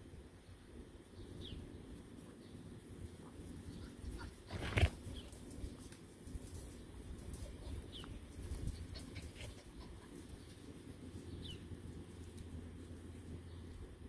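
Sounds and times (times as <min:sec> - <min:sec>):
puppies rustling in grass: 0:00.9 - 0:14.0.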